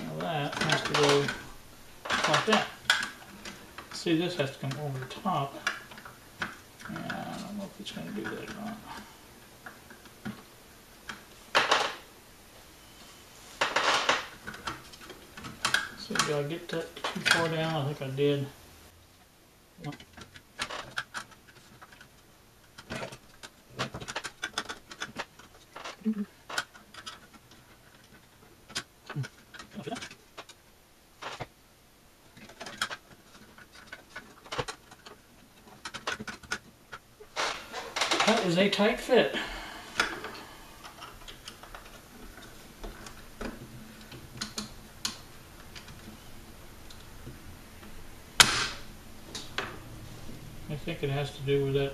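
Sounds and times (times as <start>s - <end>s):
hands clicking and scraping metal parts: 0.0s - 12.0s, 13.6s - 18.1s, 19.8s - 30.6s, 31.2s - 31.6s, 32.2s - 49.8s.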